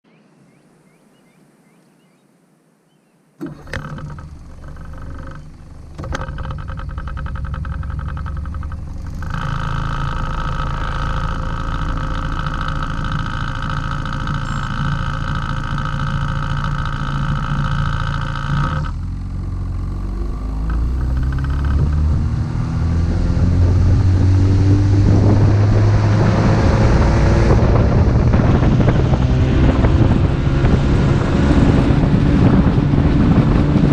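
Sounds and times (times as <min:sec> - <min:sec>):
engine starting and revving: 0:03.4 - 0:33.9.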